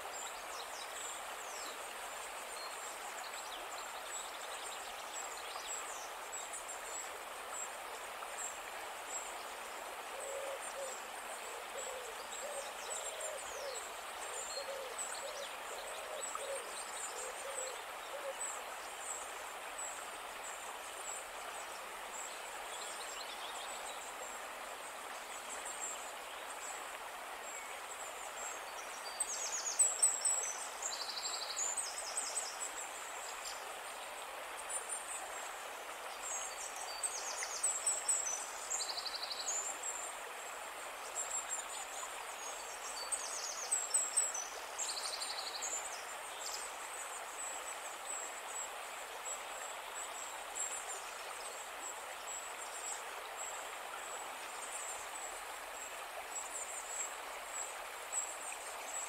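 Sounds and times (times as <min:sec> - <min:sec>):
brook running over rocks: 0:00.0 - 0:59.0.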